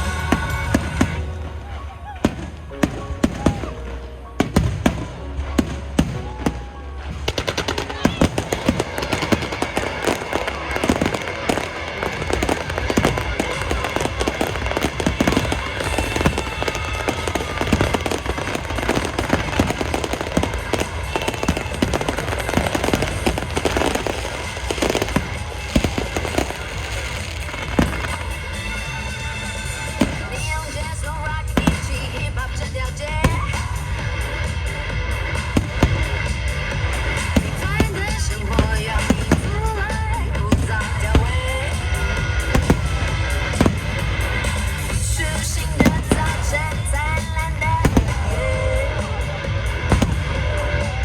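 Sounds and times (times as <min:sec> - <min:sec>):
fireworks bursting and crackling: 0:00.0 - 0:51.0
music playing: 0:00.0 - 0:51.0.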